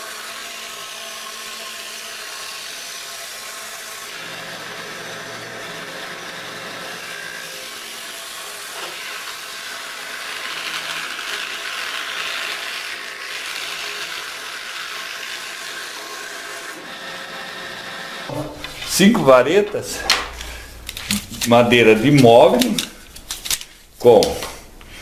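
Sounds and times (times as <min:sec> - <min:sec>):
electric motor humming: 0:00.0 - 0:23.5
cutter rasping wooden stick: 0:00.2 - 0:23.6.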